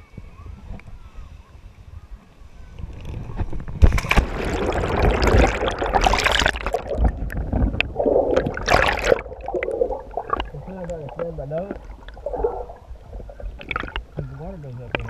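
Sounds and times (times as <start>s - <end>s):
water splashing and churning: 2.8s - 15.0s.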